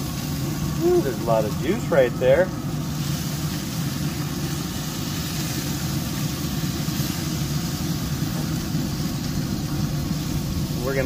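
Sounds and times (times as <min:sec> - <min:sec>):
constant hiss: 0:00.0 - 0:11.0
pellet grill fan running: 0:00.0 - 0:11.0.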